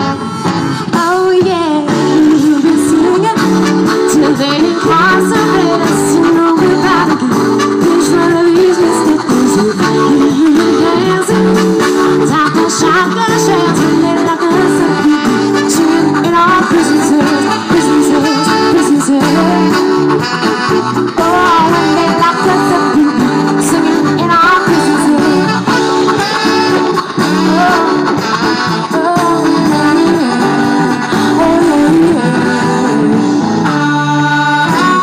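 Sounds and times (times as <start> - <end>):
bass: 0.0 - 35.0
drums: 0.0 - 35.0
electric guitar: 0.0 - 35.0
horn section: 0.0 - 35.0.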